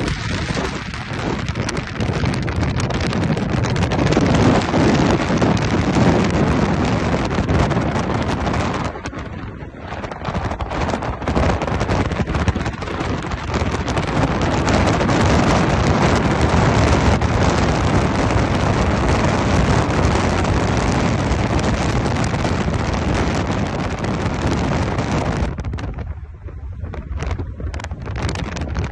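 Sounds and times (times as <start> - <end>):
road and engine noise: 0.0 - 28.9
wind rushing over microphone: 0.0 - 28.9.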